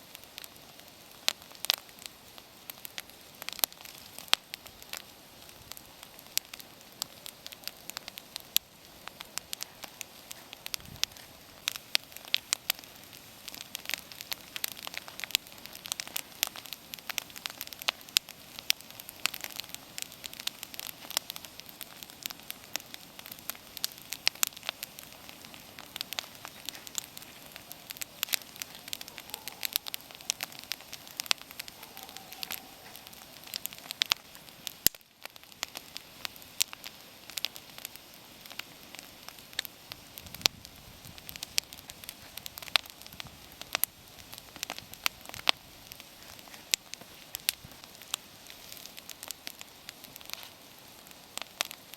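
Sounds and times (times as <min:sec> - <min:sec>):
bonfire crackling and popping: 0:00.0 - 0:51.9
hiss of flame: 0:00.0 - 0:51.9.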